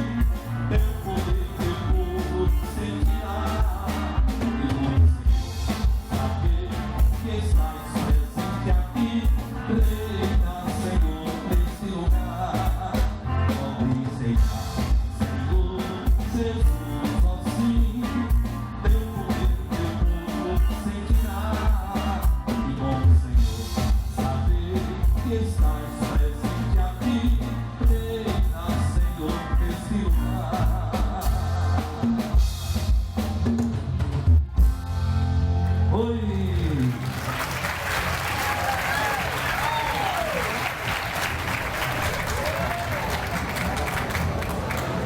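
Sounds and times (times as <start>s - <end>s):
drums keeping a steady beat: 0.0s - 35.4s, 36.3s - 45.0s
live band music: 0.0s - 45.0s.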